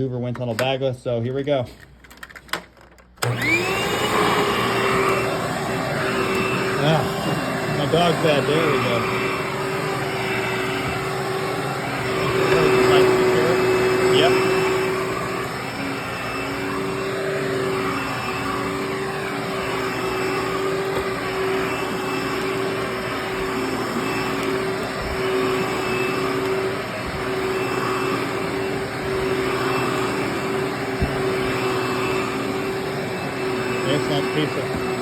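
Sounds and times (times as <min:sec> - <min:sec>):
vacuum cleaner motor whine: 0:03.2 - 0:35.0.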